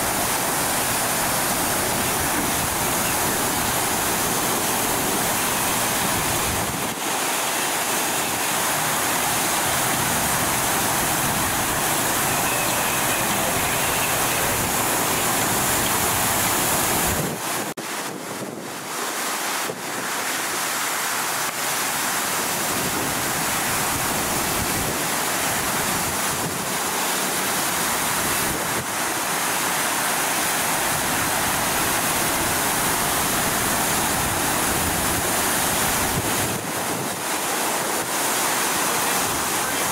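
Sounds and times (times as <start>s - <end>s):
water gushing from hydrant: 0.0s - 39.9s.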